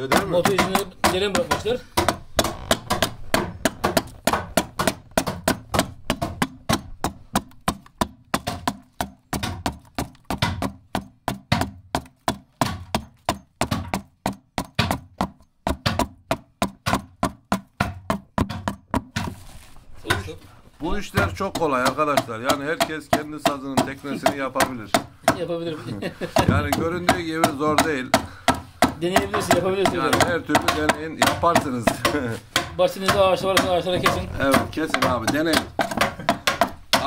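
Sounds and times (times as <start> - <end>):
adze chopping wood: 0.0 - 19.4, 20.0 - 37.0.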